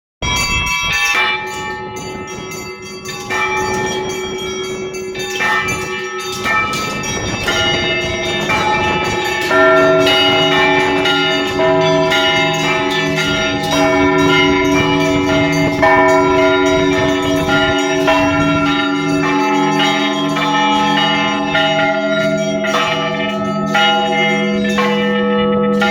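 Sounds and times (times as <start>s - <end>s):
church bells pealing: 0.2s - 25.9s.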